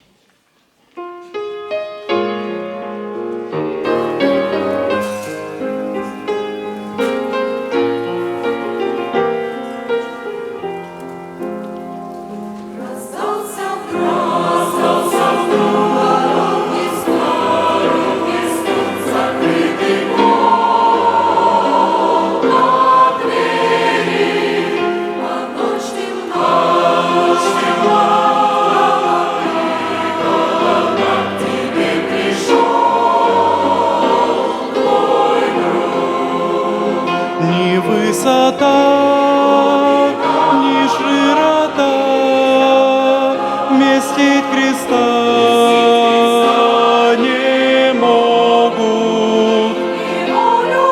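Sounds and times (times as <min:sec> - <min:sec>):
choir singing: 0:02.2 - 0:50.9.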